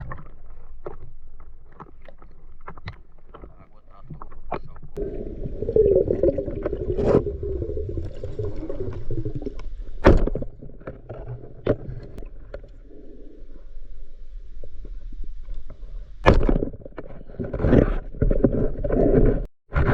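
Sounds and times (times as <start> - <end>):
water churning and gurgling: 0.0 - 19.4.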